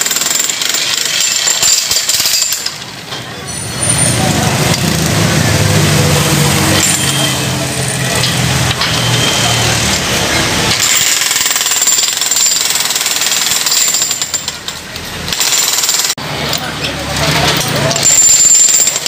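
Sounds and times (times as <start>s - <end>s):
jackhammers hammering concrete: 0.0s - 2.8s, 4.6s - 9.3s, 10.6s - 19.0s.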